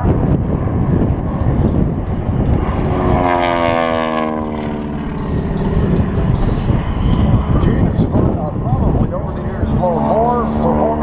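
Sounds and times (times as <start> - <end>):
low rumble: 0.0 - 11.0
propeller plane passing by: 0.0 - 11.0.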